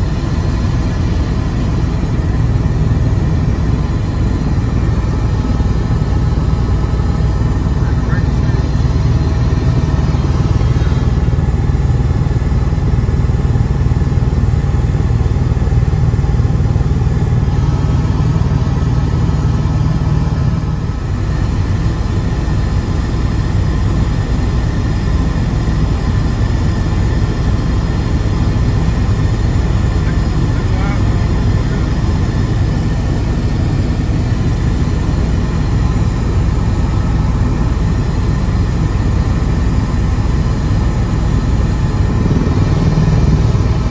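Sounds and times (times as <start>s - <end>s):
helicopter rotor and engine drone: 0.0s - 43.9s.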